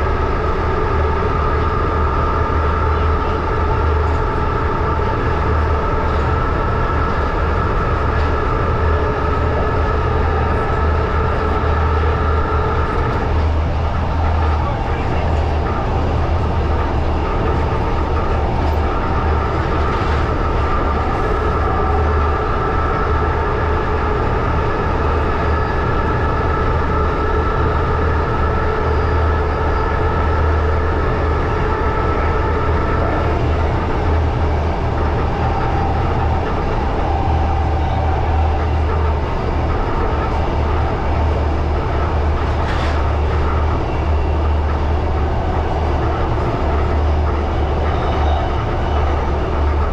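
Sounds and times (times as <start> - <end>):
high whine of train: 0.0 - 49.9
train wheels rumbling: 0.0 - 49.9.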